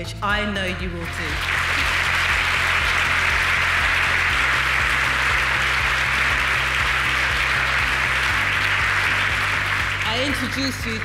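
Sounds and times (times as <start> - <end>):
music playing: 0.0 - 11.0
audience applauding: 1.2 - 11.0.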